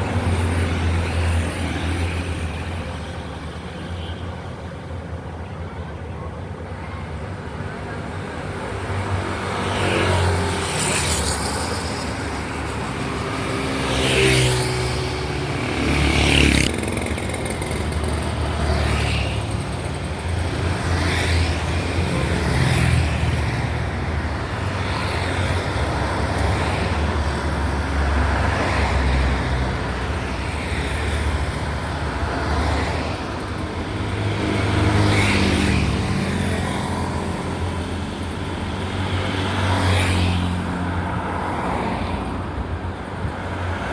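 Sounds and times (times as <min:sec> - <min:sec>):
vehicles passing: 0:00.0 - 0:43.9.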